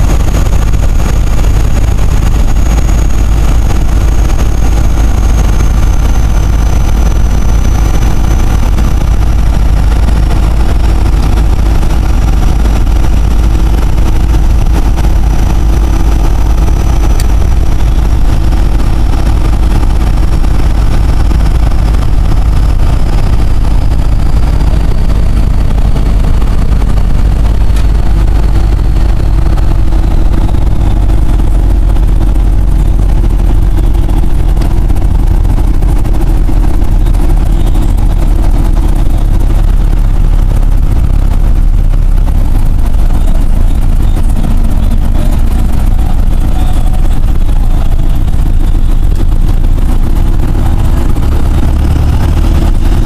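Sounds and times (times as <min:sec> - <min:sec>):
diesel engine drone: 0:00.0 - 0:53.0.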